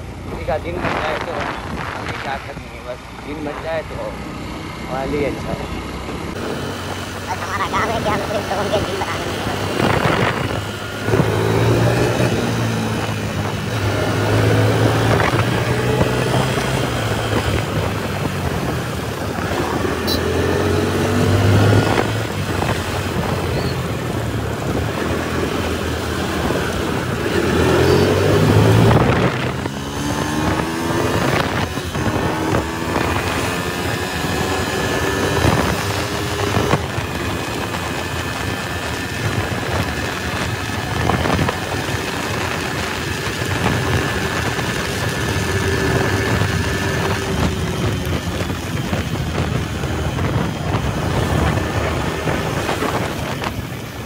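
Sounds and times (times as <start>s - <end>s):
motorcycle engine revving: 0.0s - 54.0s
wind buffeting microphone: 0.0s - 54.0s.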